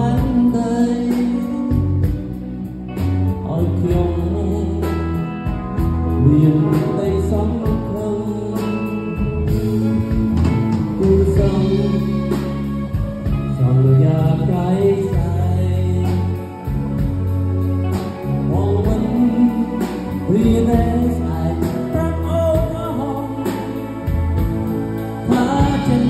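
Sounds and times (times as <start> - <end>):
man singing into a microphone: 0.0 - 17.1, 18.2 - 24.4, 25.0 - 26.0
deep bass notes: 0.0 - 26.0
electric guitar: 0.0 - 26.0.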